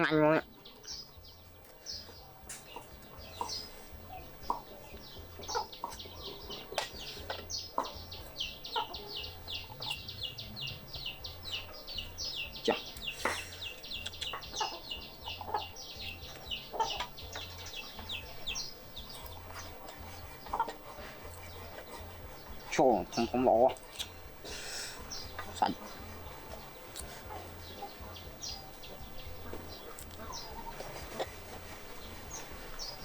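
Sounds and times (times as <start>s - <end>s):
bird chirping rapidly: 0.0s - 33.0s.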